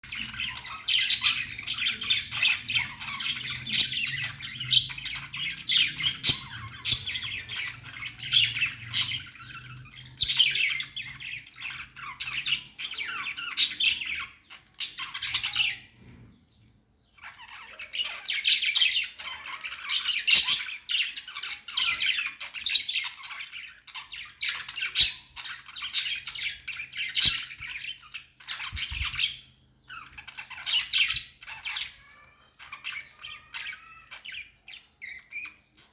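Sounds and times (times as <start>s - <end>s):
budgerigars chattering: 0.1s - 15.9s, 17.2s - 35.9s.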